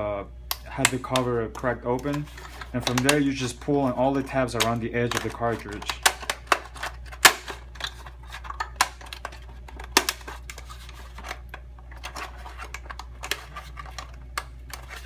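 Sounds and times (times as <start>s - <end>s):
plastic shell rattling: 2.0s - 15.0s.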